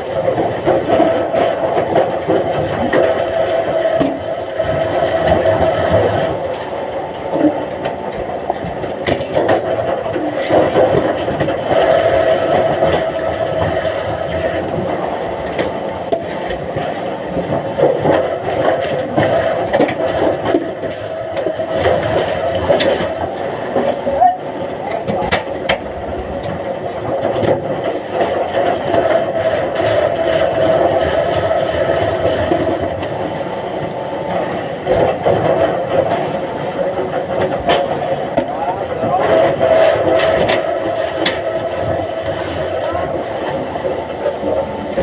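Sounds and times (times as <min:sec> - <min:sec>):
log debarking machinery drone: 0:00.0 - 0:45.0
rattles and knocks: 0:00.0 - 0:45.0.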